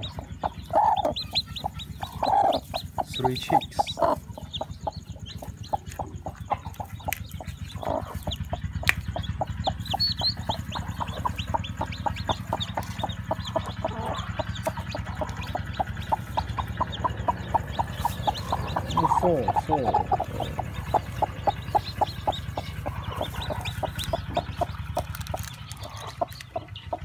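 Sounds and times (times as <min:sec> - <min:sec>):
chicks peeping: 0:00.0 - 0:27.0
hen clucking: 0:00.0 - 0:27.0.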